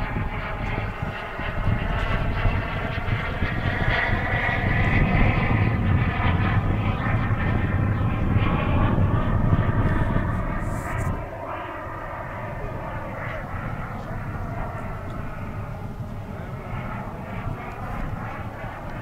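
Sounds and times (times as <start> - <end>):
model jet engine whine: 0.0 - 19.0.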